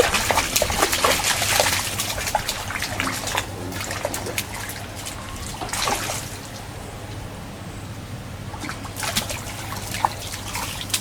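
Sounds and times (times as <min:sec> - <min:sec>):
fish splashing at water surface: 0:00.0 - 0:06.8, 0:08.5 - 0:11.0.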